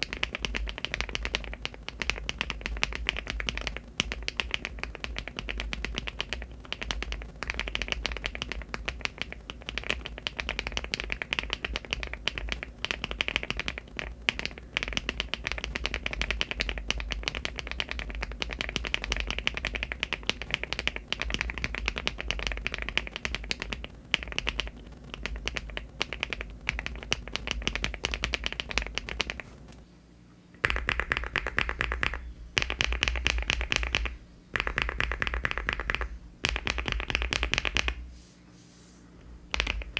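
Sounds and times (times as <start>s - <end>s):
fast typing on mechanical keyboard: 0.0s - 29.6s, 30.6s - 38.0s, 39.5s - 39.9s.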